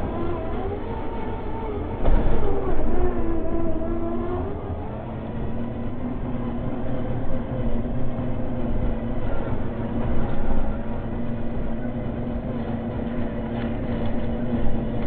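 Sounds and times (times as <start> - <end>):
electric motor whining: 0.0 - 15.0
bumps and rattles: 1.9 - 15.0.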